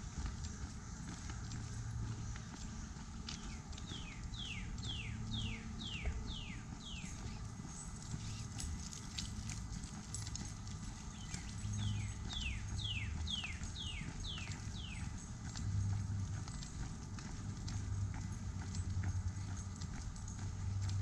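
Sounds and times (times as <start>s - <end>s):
footsteps on pavement: 0.0s - 21.0s.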